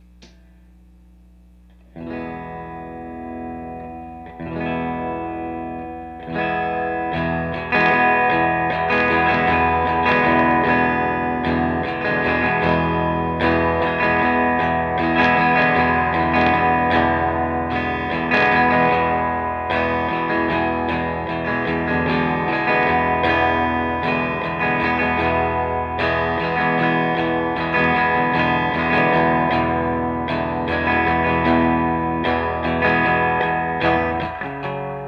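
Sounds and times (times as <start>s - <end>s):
electric guitar notes and chords: 0.0s - 35.0s.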